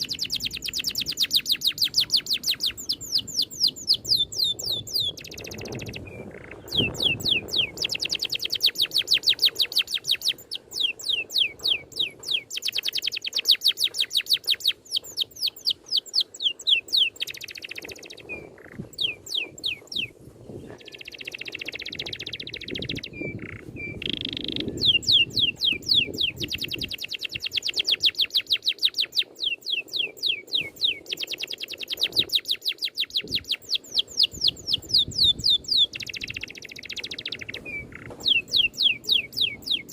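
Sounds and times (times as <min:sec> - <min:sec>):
songbird song with rapid rolls: 0:00.0 - 0:39.9.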